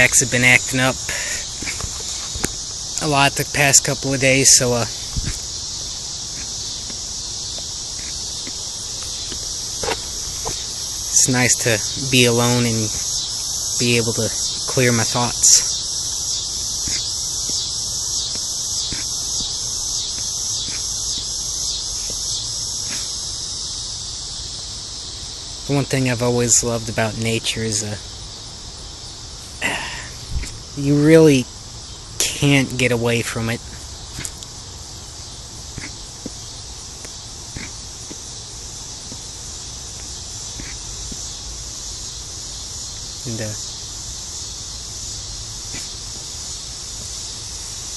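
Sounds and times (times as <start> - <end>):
crickets and insects trilling: 0.0 - 47.9.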